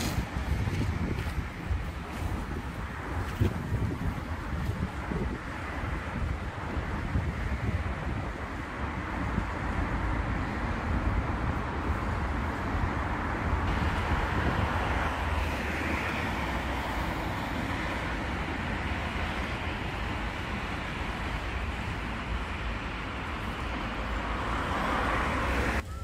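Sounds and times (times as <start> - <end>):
city traffic: 0.0 - 26.0
tram rumbling on track: 0.0 - 26.0
wind on microphone: 0.0 - 26.0.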